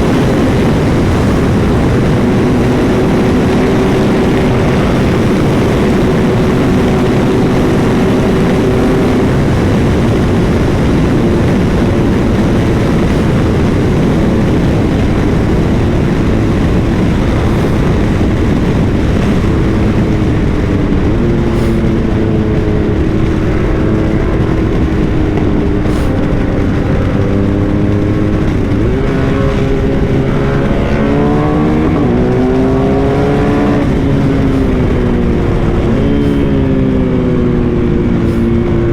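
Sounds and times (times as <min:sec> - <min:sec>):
motorcycle engine accelerating: 0:00.0 - 0:38.9
wind rush: 0:00.0 - 0:38.9.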